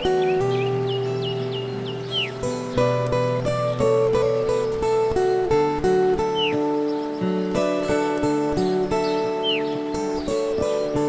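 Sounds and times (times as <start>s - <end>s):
lofi music with acoustic guitar: 0.0s - 11.0s.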